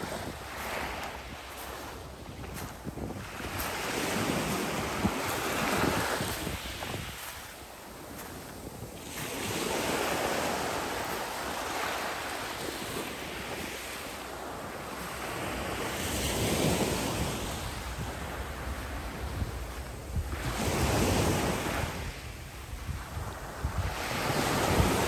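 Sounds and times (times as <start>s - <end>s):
wind buffeting microphone: 0.0s - 14.0s, 15.6s - 25.0s
waves washing on pebble beach: 0.0s - 25.0s.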